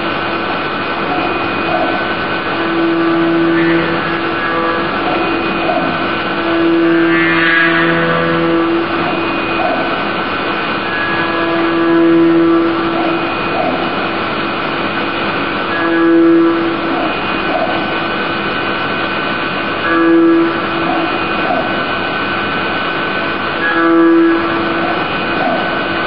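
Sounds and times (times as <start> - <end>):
milling machine spindle hum: 0.0 - 26.0.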